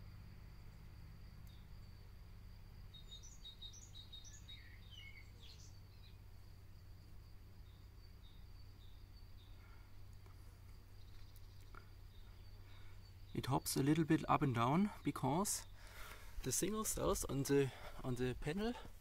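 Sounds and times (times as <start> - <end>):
small bird chirping: 0.6 - 18.7.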